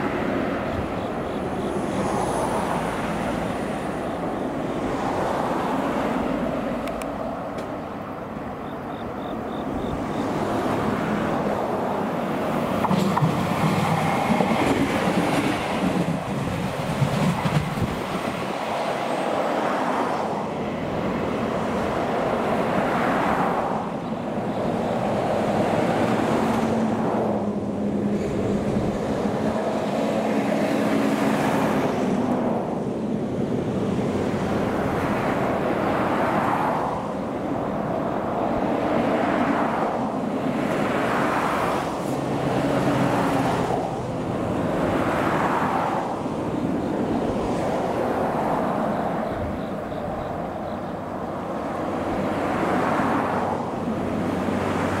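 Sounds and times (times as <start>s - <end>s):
railcar engine humming: 0.0s - 55.0s.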